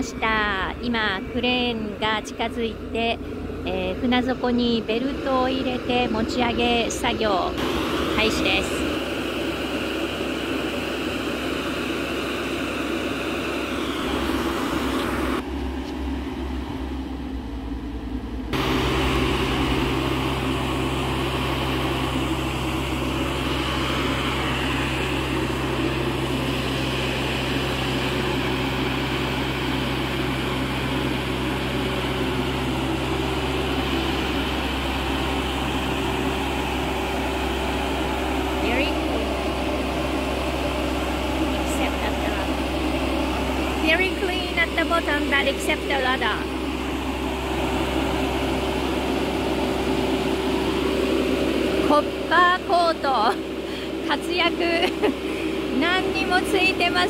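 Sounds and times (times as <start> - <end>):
boat hoist mechanical drone: 0.0 - 57.0.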